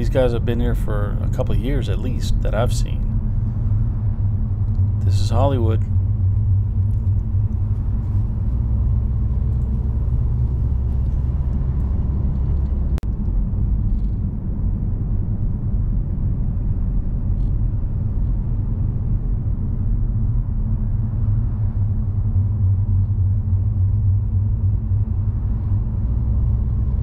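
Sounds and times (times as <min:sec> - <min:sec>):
car driving on street: 0:00.0 - 0:27.0.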